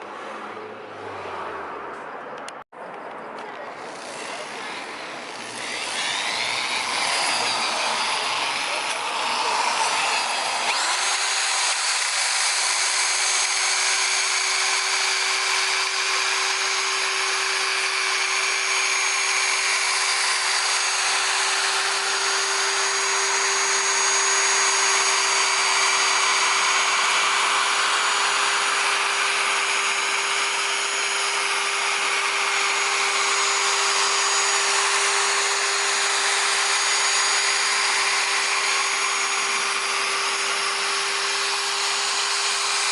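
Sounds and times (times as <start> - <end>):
electric polisher motor whine: 3.7 - 42.9.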